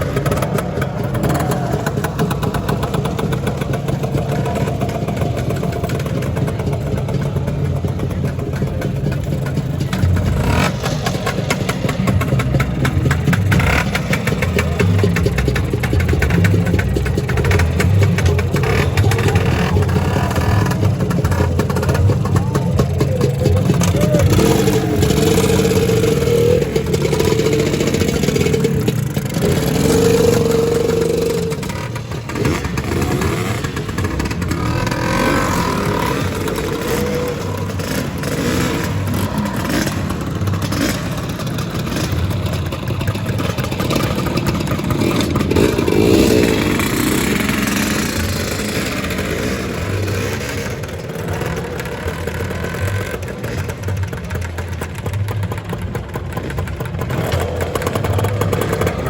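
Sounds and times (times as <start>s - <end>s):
scooter engines revving: 0.0s - 59.0s.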